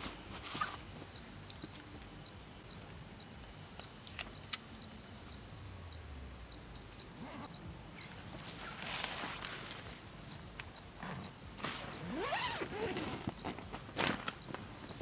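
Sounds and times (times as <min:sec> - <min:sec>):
cricket chirping: 0:00.0 - 0:15.0
high-pitched insect trill: 0:00.0 - 0:15.0.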